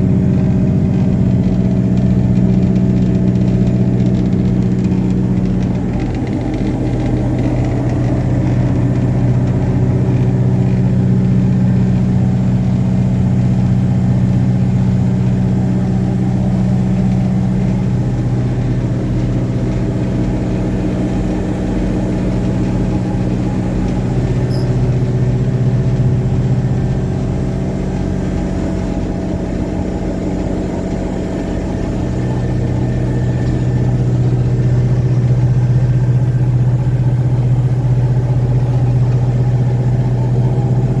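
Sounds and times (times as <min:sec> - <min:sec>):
drill rig deep hum: 0:00.0 - 0:41.0.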